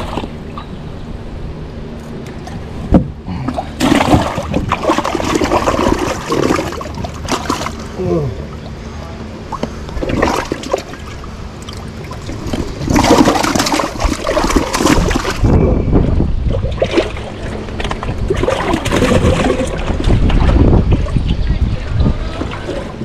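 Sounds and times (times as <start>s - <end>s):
water splashing and trickling: 0.0s - 0.8s, 3.3s - 23.0s.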